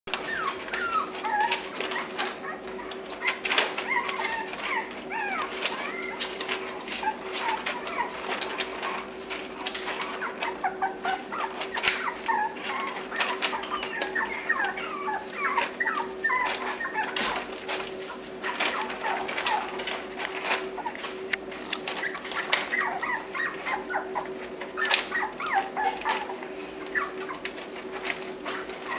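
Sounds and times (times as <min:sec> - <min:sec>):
clicks and scratches: 0:00.1 - 0:28.9
puppies whining and squeaking: 0:00.1 - 0:28.9.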